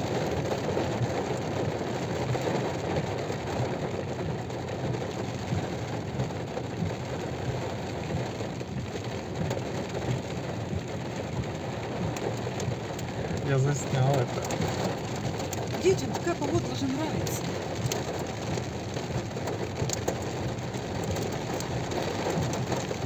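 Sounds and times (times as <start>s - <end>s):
car running noise: 0.0s - 23.0s
heavy rain drumming on car: 0.0s - 23.0s.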